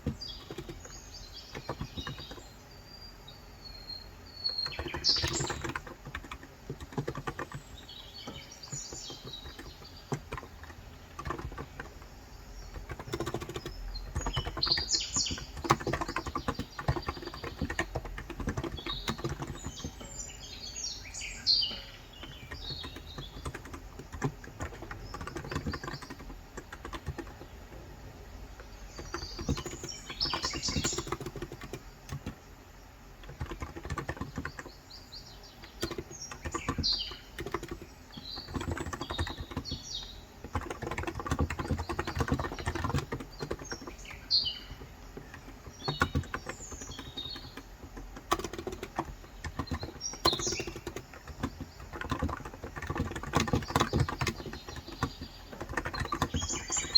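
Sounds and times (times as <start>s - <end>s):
soft keyboard keystrokes: 0.0s - 2.5s, 4.6s - 20.3s, 21.7s - 32.4s, 33.2s - 34.8s, 35.4s - 56.9s
birds chirping: 0.0s - 56.9s.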